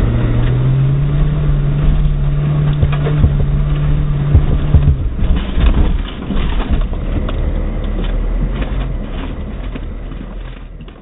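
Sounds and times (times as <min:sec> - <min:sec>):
knocks and rattles: 0:00.0 - 0:11.0
low engine rumble: 0:00.0 - 0:11.0.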